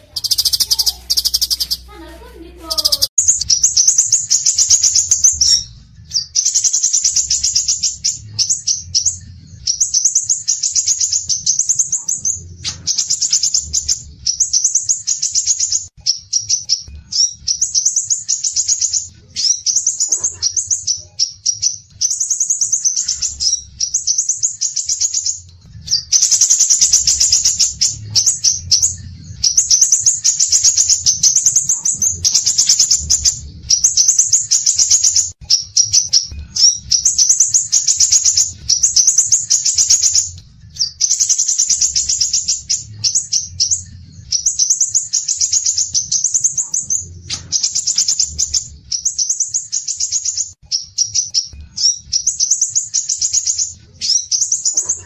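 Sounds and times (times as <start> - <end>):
songbird chattering song: 0.0 - 2.1, 2.7 - 55.0.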